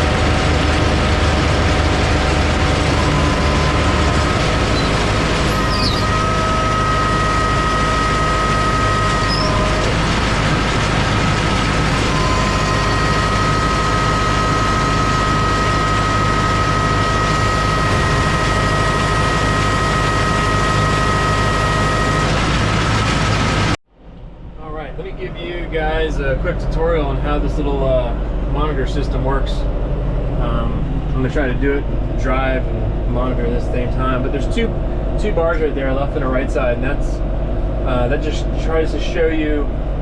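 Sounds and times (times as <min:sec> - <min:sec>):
tractor engine drone: 0:00.0 - 0:24.4, 0:25.0 - 0:40.0
baler high whine: 0:00.0 - 0:40.0.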